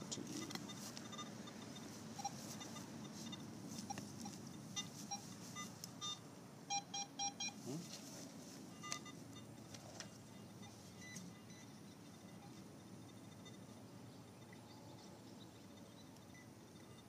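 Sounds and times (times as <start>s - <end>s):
metal detector beeping: 0.0s - 7.6s, 8.7s - 15.1s, 15.7s - 17.0s.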